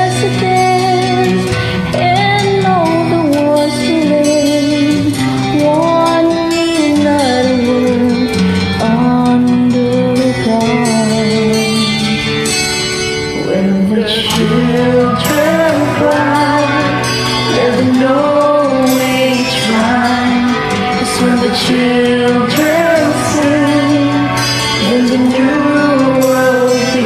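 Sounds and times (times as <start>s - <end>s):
backing track chords: 0.0s - 27.0s
person singing karaoke ballad: 0.0s - 27.0s.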